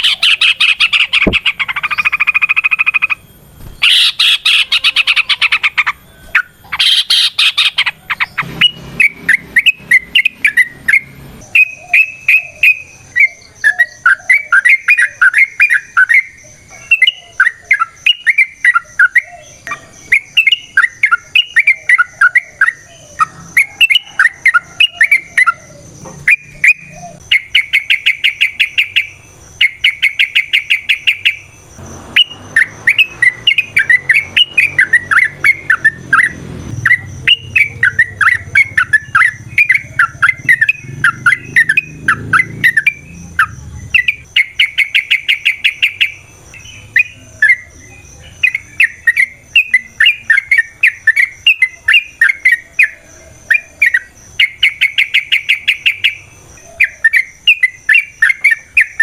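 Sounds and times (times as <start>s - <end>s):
bird singing chattering phrases: 0.0s - 59.0s
fast bird trills: 0.0s - 59.0s.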